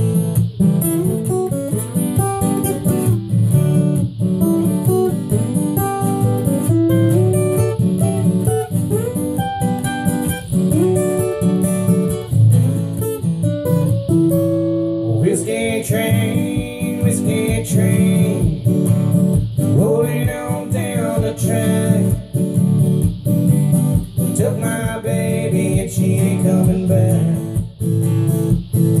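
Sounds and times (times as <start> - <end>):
acoustic guitars playing: 0.0 - 29.0.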